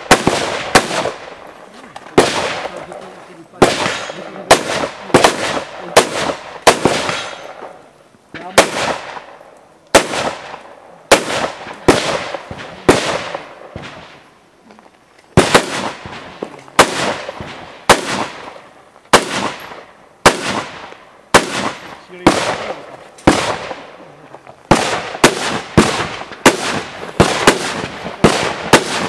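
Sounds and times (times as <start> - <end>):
rifle shots with echo: 0.0 - 1.5, 2.1 - 7.8, 8.4 - 14.2, 15.4 - 24.0, 24.7 - 29.0.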